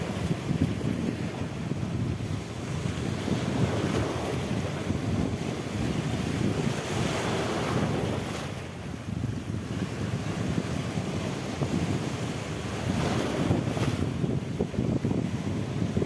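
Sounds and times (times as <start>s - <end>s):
small waves in shallow surf: 0.0s - 16.0s
wind buffeting microphone: 0.0s - 16.0s.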